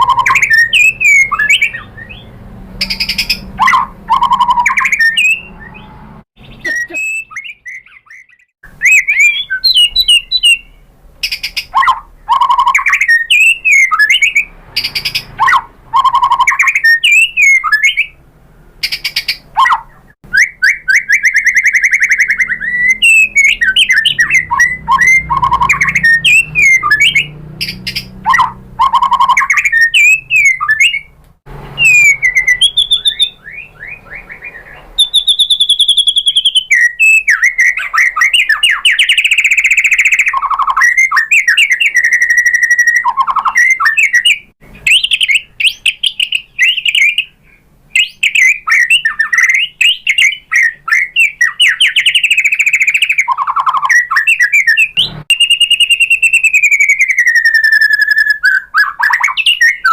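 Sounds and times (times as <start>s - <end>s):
bird singing whistles and trills: 0.0s - 18.2s, 18.8s - 59.9s.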